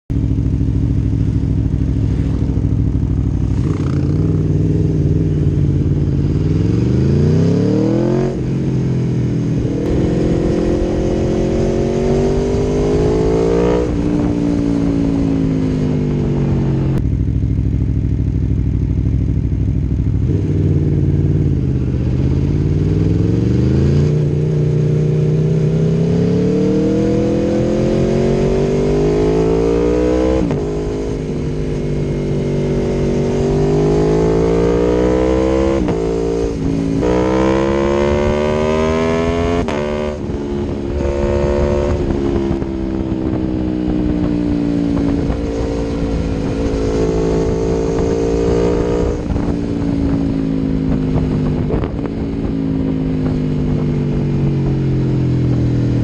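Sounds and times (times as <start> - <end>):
motorcycle engine revving: 0.1 - 56.0.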